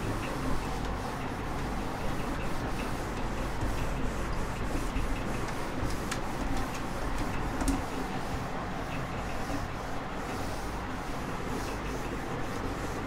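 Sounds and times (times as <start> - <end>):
cloth rubbing on whiteboard: 0.0 - 13.0
steady low hum: 0.0 - 13.0.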